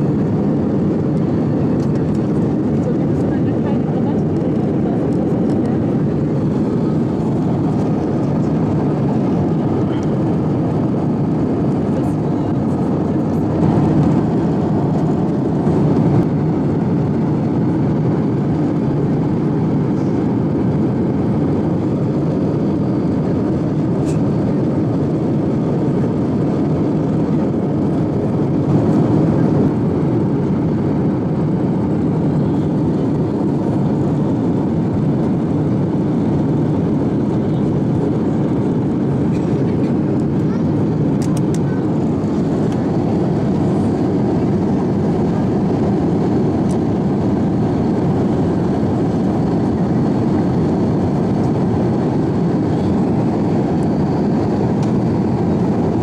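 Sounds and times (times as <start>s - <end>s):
airplane cabin engine rush: 0.0s - 56.0s.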